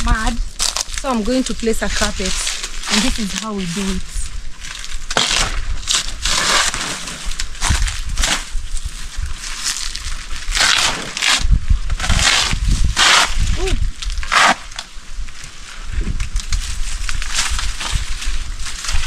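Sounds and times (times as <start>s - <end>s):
banana leaves tearing and rustling: 0.0s - 19.0s.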